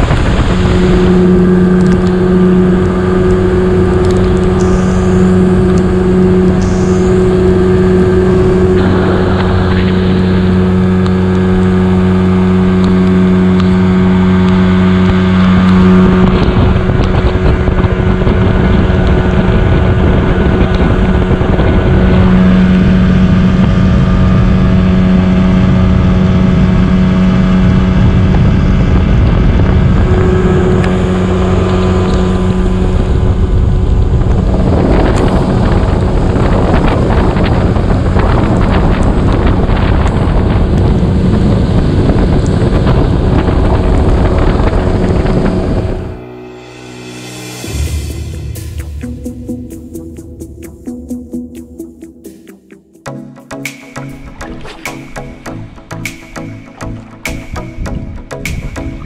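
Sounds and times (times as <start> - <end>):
outboard motor running: 0.0 - 46.6, 53.1 - 59.0.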